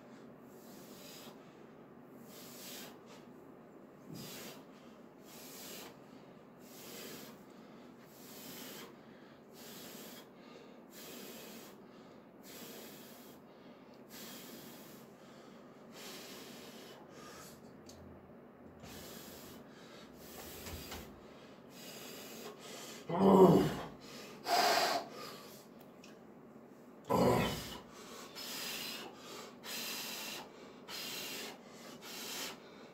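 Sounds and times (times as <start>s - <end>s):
man breathing forcefully: 0.5s - 3.3s, 4.1s - 17.6s, 18.8s - 25.7s, 27.1s - 32.9s.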